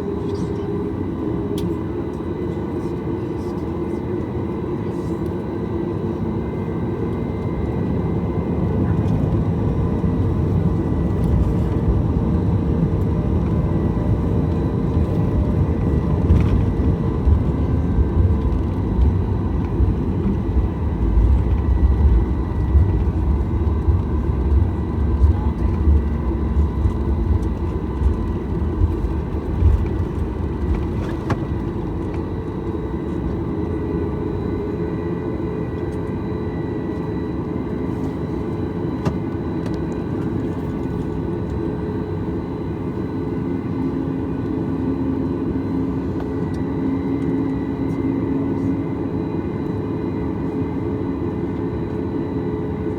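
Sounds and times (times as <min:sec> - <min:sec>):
aircraft cabin engine hum: 0:00.0 - 0:52.9.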